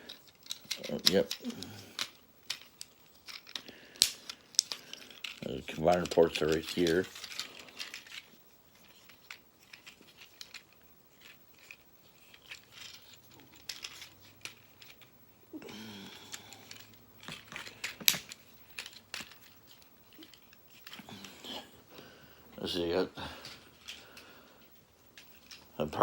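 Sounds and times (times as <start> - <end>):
plastic toy parts clicking: 0.0 - 15.1, 15.9 - 21.3, 24.7 - 25.7.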